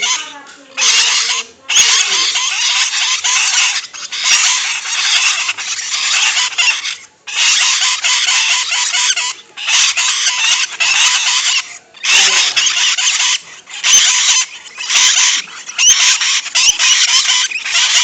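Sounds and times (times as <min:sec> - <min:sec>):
lovebird chattering in shrill trills: 0:00.0 - 0:18.0.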